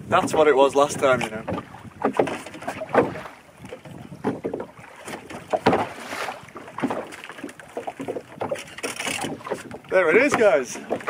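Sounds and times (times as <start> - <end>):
water slapping against boat: 0.0 - 11.0
wind buffeting microphone: 0.0 - 11.0.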